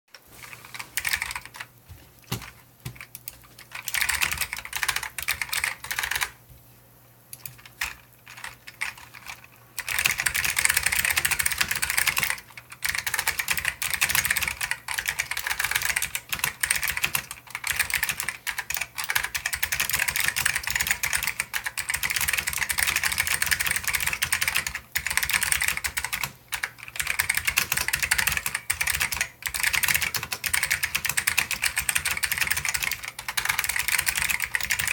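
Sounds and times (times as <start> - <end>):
clicky keyboard typing: 0.4 - 6.4, 7.3 - 34.9.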